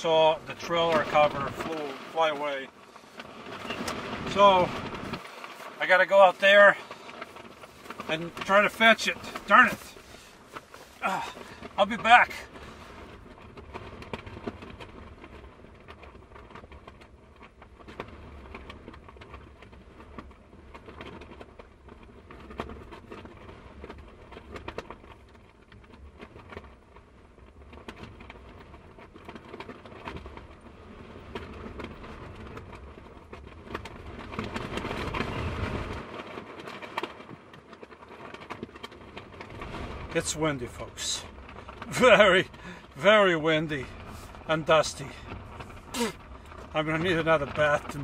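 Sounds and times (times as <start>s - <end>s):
small knocks and rattles: 0.0s - 48.0s
strong wind gusting against van: 0.0s - 48.0s.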